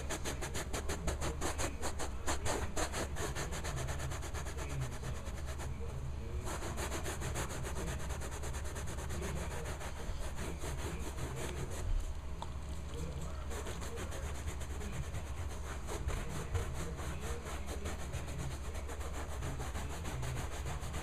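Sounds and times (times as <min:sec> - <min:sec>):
brush scrubbing carpet: 0:00.0 - 0:12.1, 0:12.9 - 0:21.0.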